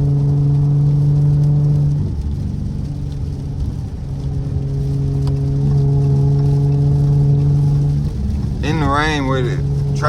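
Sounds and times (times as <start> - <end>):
car exhaust droning: 0.0 - 10.0.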